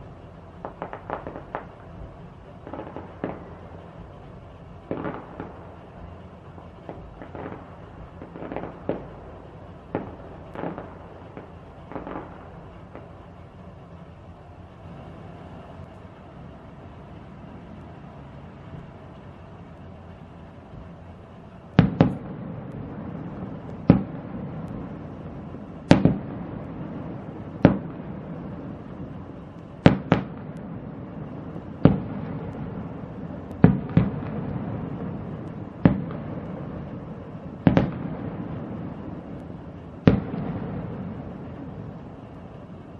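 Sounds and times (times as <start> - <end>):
distant firework bangs: 0.0 - 42.9
steady background noise: 0.0 - 42.9.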